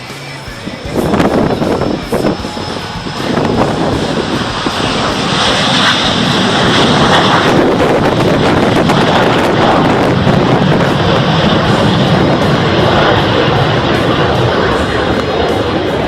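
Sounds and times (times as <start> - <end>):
airplane flying overhead: 0.0 - 16.0.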